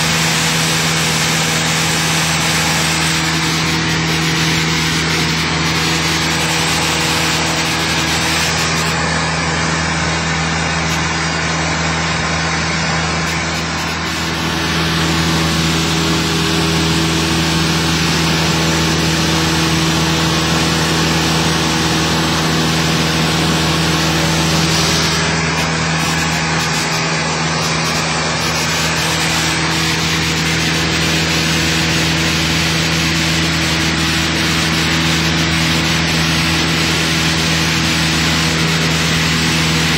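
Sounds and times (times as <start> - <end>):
propeller engine droning: 0.0 - 39.9.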